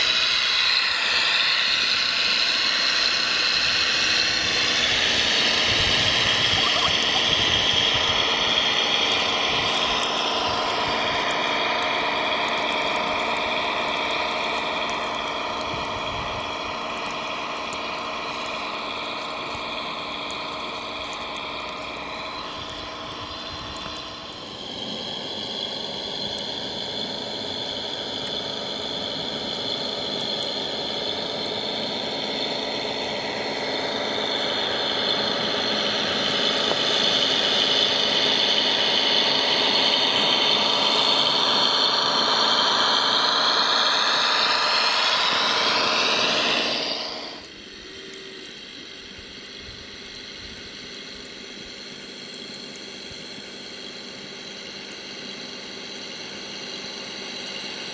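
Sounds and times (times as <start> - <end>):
model tractor drive whining: 0.0 - 57.9
steady hum: 0.0 - 57.9.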